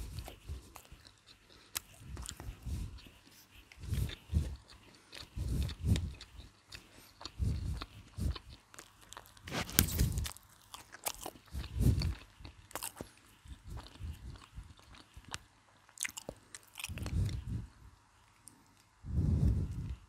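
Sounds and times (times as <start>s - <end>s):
chewing crunchy fried chicken: 0.0s - 20.0s.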